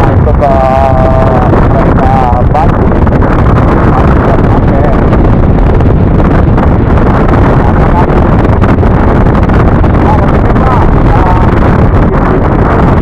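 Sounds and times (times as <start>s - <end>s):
wind rush on microphone: 0.0s - 13.0s.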